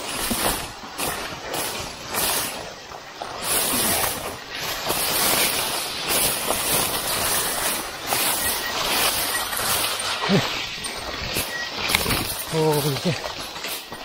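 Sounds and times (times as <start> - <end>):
bamboo grass rustling and scraping: 0.0 - 14.0.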